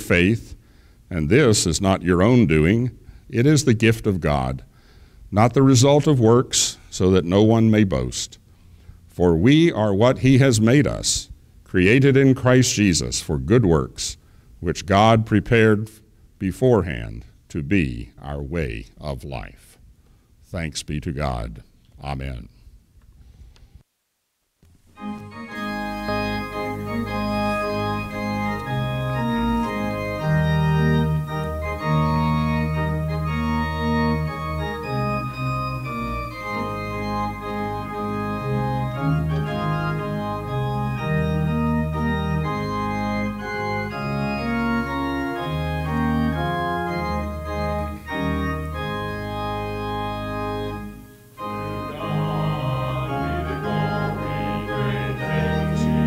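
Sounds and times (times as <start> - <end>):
church organ playing a hymn: 0.0 - 8.4, 9.1 - 15.9, 25.0 - 56.0.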